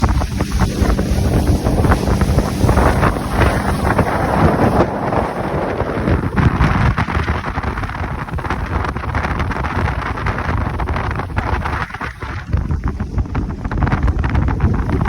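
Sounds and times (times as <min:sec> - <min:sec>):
outboard motor running: 0:00.0 - 0:15.0
wind noise on microphone: 0:00.0 - 0:15.0.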